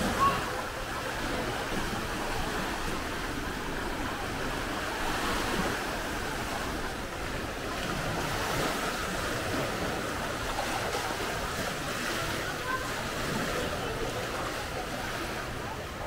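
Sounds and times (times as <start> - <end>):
small waves washing onto beach: 0.0 - 16.0.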